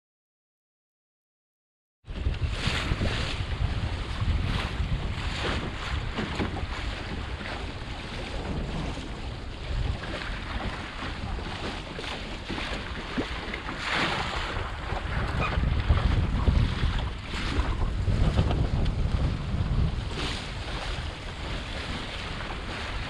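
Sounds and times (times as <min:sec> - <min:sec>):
water splashing against hull: 0:02.1 - 0:23.0
wind buffeting microphone: 0:02.1 - 0:23.0.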